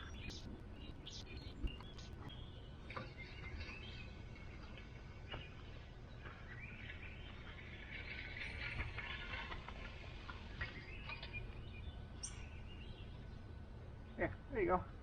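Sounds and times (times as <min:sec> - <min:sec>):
faint birds chirping: 0:00.0 - 0:15.0
low outdoor background noise: 0:00.0 - 0:15.0.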